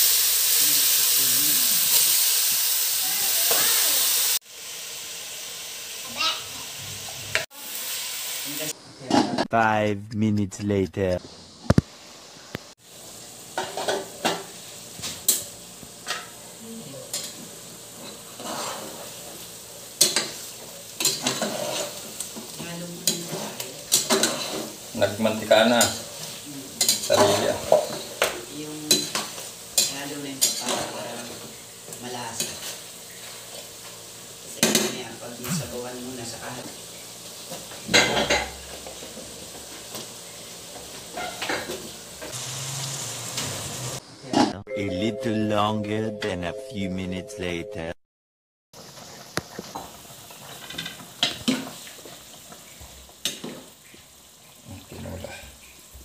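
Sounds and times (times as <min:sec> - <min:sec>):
chicken sizzling in fat: 0:00.0 - 0:09.0, 0:11.4 - 0:44.2, 0:48.8 - 0:56.0.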